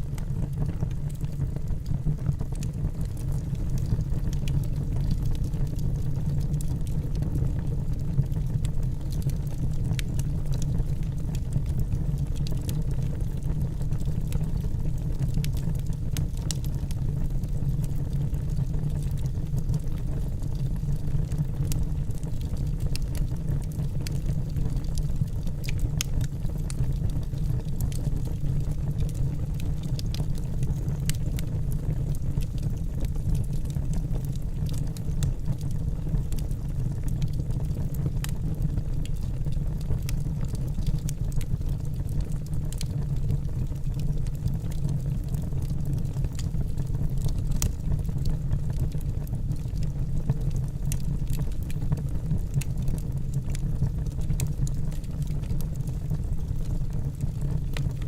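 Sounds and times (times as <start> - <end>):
fire rumbling: 0.0 - 58.0
logs crackling and popping: 0.1 - 58.0.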